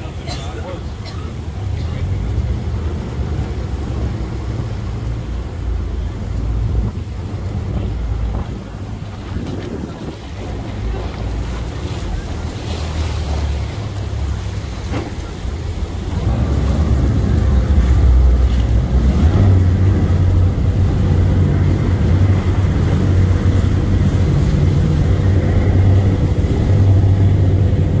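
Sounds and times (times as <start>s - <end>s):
rushing water: 0.0s - 28.0s
speedboat engine rumble: 0.0s - 28.0s
wind buffeting microphone: 1.5s - 28.0s.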